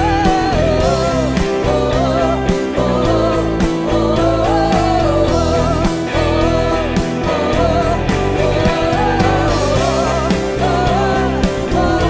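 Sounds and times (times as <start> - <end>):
person singing: 0.0 - 12.0
worship band playing: 0.0 - 12.0.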